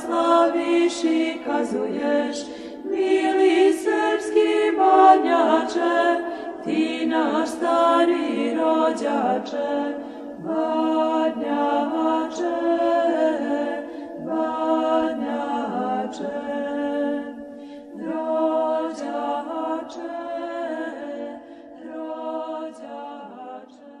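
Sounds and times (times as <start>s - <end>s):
unaccompanied choir singing: 0.0s - 24.0s.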